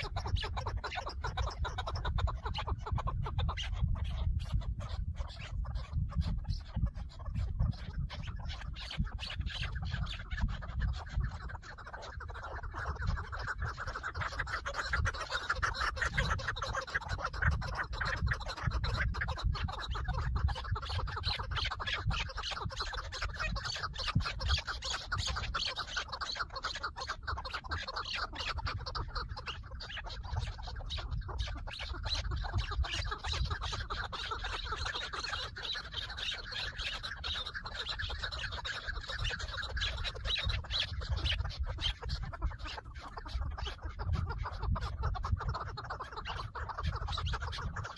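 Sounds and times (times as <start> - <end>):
birds clucking chatter: 0.0 - 47.9.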